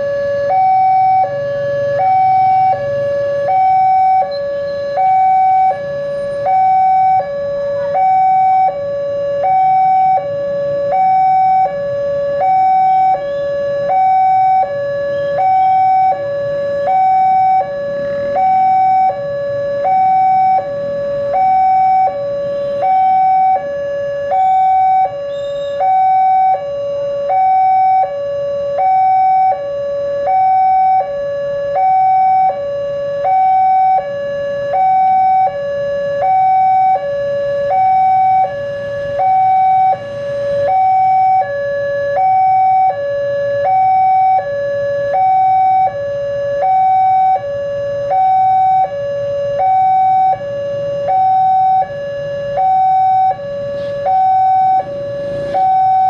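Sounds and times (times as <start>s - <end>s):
low traffic rumble: 0.0s - 56.0s
two-tone crossing alarm: 0.0s - 56.0s.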